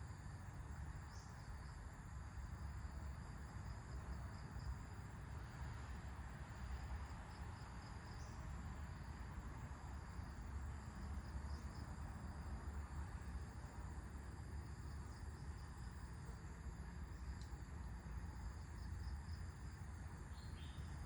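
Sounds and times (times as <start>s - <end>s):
insects chirring: 0.0s - 5.8s, 6.6s - 21.0s.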